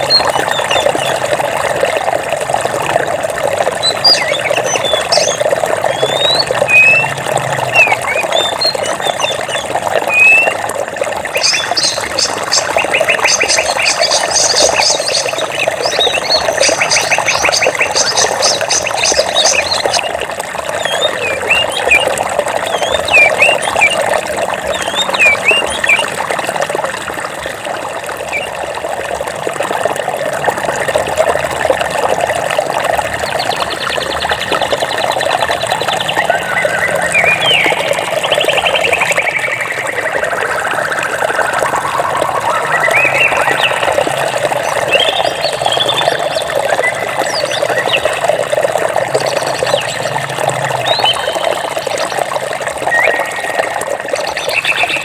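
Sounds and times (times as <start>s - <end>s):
birds chirping: 0.0s - 2.0s, 3.6s - 26.7s, 28.2s - 28.6s, 33.2s - 52.1s, 52.8s - 55.0s
stream water rushing: 0.0s - 55.0s.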